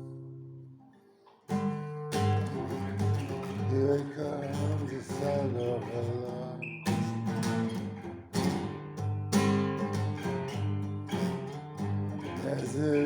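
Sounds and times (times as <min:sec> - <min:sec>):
guitar chords strummed: 0:01.5 - 0:13.0.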